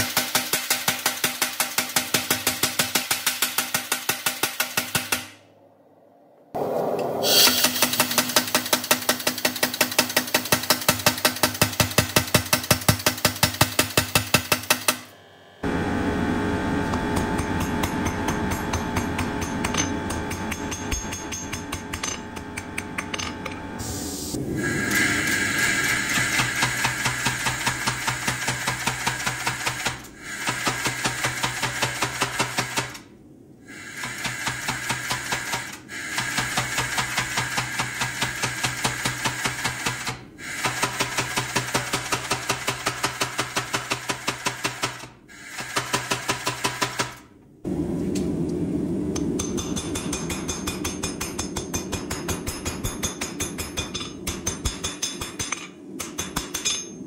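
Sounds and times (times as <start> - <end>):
power hammer striking hot steel: 7.2 - 15.1, 15.7 - 33.0, 33.8 - 47.2, 49.1 - 57.0.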